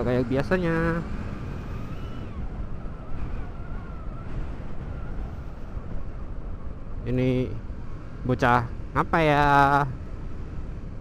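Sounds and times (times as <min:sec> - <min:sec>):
road noise: 0:00.0 - 0:11.0
wind rushing over microphone: 0:00.0 - 0:11.0.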